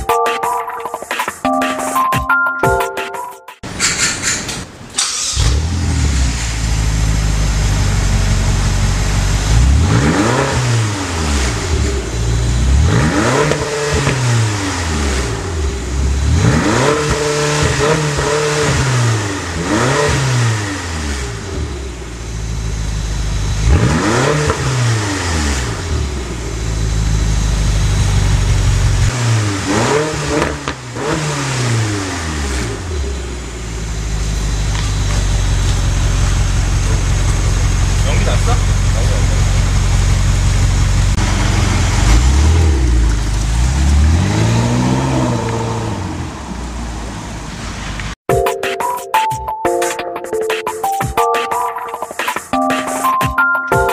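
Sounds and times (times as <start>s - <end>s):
car engine idling and revving: 3.7s - 48.2s.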